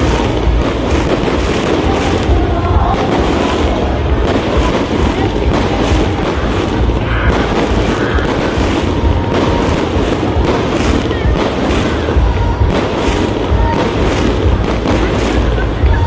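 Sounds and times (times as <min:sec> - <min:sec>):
crowd voices: 0:00.0 - 0:16.0
fireworks booming: 0:00.0 - 0:16.0
low rumble: 0:00.0 - 0:16.0.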